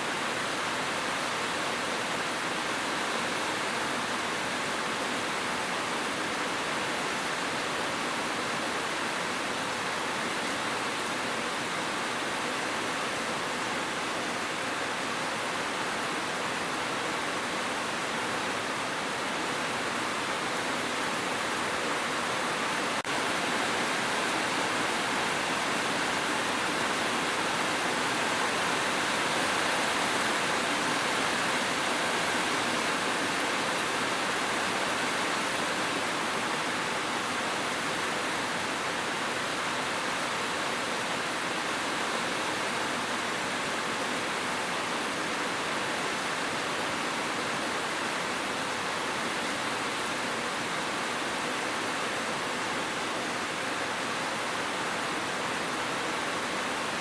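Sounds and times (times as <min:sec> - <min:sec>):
dense rain hiss: 0:00.0 - 0:57.0.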